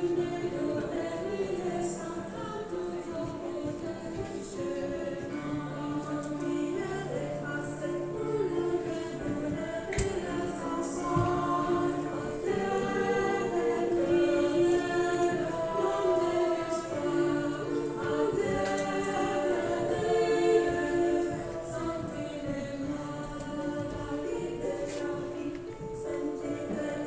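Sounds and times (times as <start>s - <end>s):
choir singing chords: 0.0s - 27.0s.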